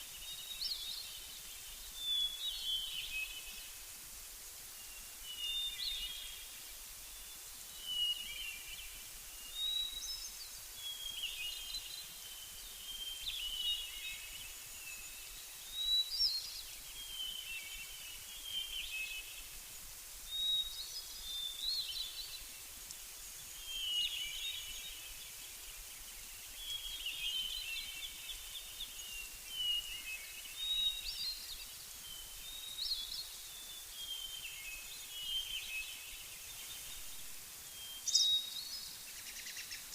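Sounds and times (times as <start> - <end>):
faint steady hiss: 0.0 - 39.9
songbirds chirping: 0.0 - 39.9.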